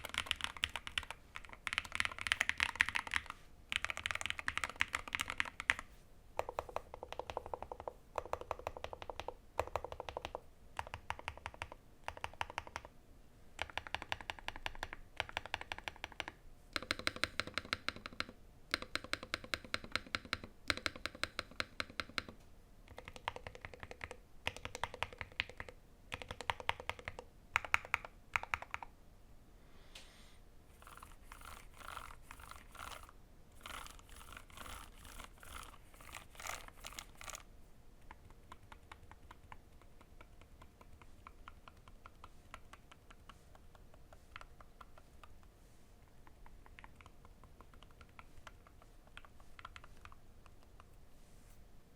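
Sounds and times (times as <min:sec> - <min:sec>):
keyboard typing: 0:00.0 - 0:12.9, 0:13.6 - 0:28.9, 0:30.8 - 0:51.0.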